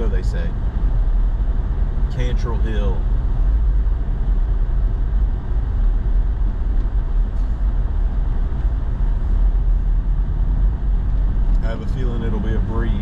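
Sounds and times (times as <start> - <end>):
truck engine and tyres on snow: 0.0 - 13.0.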